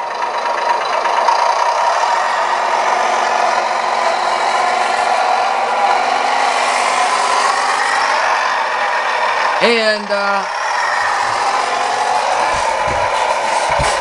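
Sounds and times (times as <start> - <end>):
simulated truck engine from speaker: 0.0 - 14.0.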